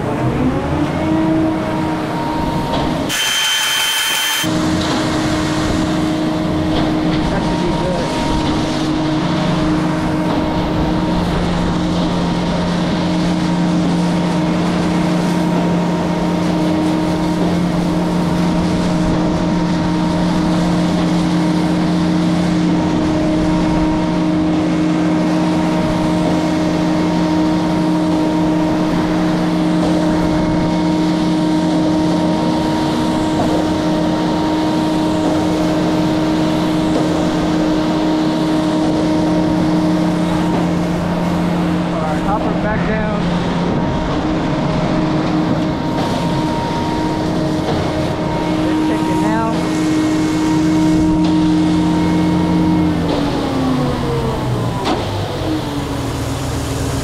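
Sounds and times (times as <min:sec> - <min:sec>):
diesel engine humming: 0:00.0 - 0:57.0
water hose spraying: 0:00.6 - 0:57.0.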